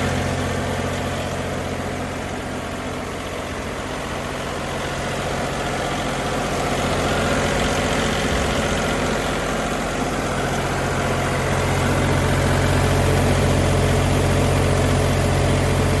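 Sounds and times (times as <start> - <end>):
air compressor engine running: 0.0 - 16.0.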